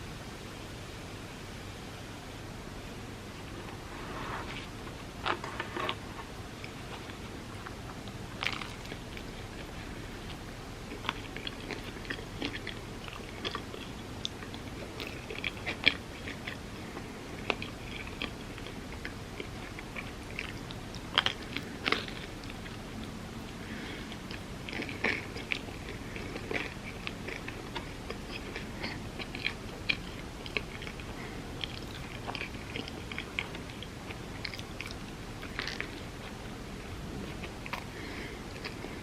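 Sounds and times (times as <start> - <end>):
background hiss: 0.0 - 39.0
chewing with crisp crunches: 3.4 - 39.0.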